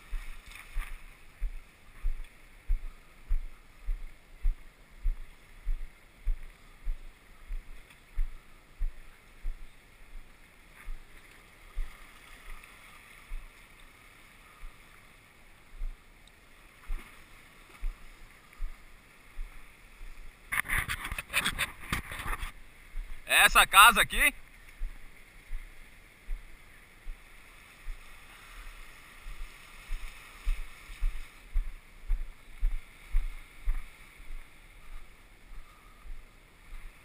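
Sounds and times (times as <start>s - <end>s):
rustling on microphone: 0.0s - 14.0s, 16.8s - 23.2s, 24.4s - 37.0s.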